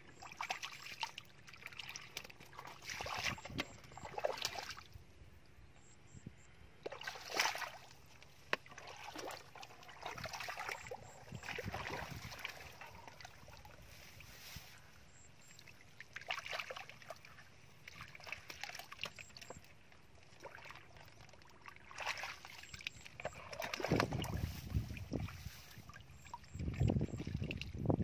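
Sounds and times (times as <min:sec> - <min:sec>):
muddy water splashing: 0:00.0 - 0:05.0, 0:06.8 - 0:28.0.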